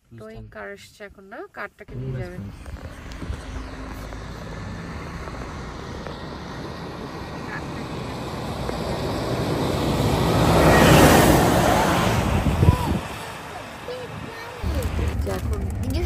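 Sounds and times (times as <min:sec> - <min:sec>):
fire engine driving past: 0:01.9 - 0:16.0.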